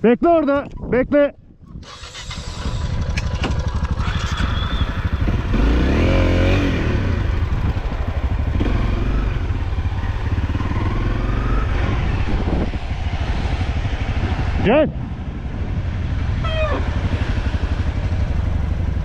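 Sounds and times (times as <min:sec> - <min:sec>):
motorcycle engine revving: 0:01.8 - 0:19.0.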